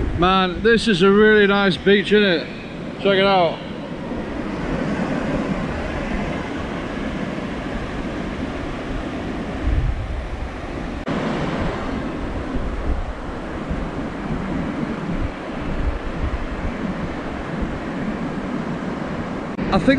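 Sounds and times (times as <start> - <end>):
waves breaking on beach: 0.0 - 19.9
wind buffeting microphone: 0.0 - 19.9.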